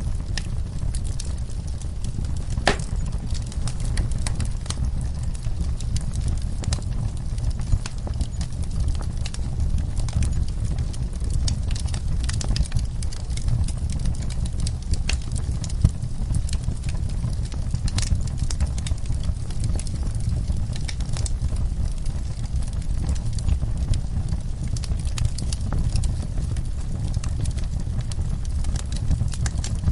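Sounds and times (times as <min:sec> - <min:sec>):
wood fire crackling and popping: 0:00.0 - 0:29.9.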